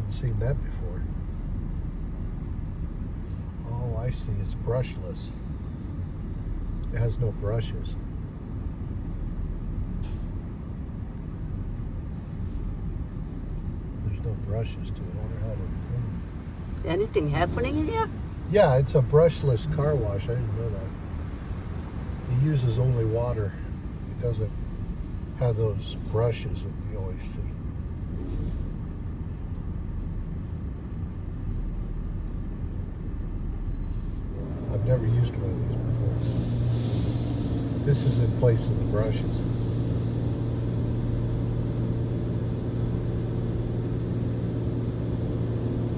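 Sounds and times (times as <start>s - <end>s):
car wash low rumble: 0.0s - 45.9s.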